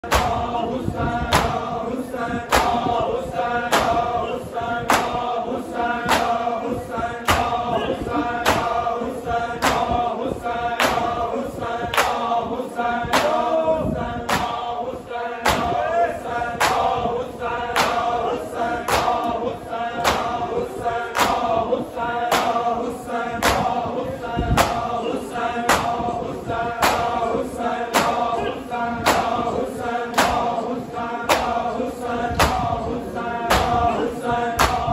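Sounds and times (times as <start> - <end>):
crowd of men chanting: 0.0 - 34.9.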